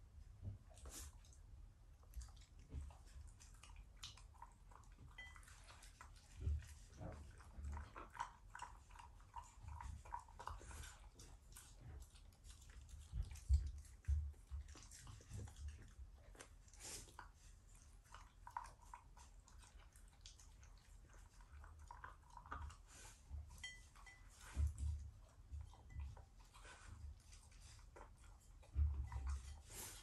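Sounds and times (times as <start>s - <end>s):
dog chewing and crunching food: 0.4s - 30.0s.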